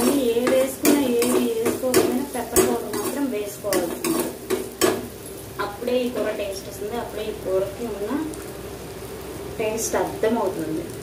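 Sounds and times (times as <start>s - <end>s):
soft sizzle of frying: 0.0s - 11.0s.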